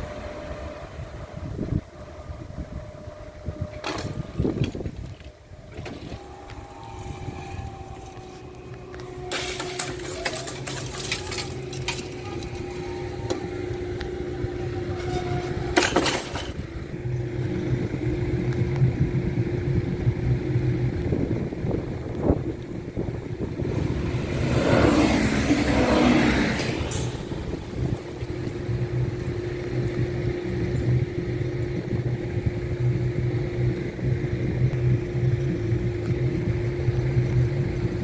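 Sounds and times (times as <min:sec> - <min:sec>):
low rumble: 0:00.0 - 0:38.0
traffic engine hum: 0:00.0 - 0:38.0
vehicles rushing past: 0:05.4 - 0:38.0.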